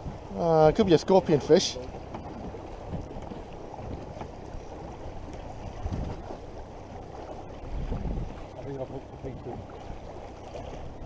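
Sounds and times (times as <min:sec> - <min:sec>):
water washing against boat: 0:00.0 - 0:11.0
wind buffeting microphone: 0:00.0 - 0:11.0.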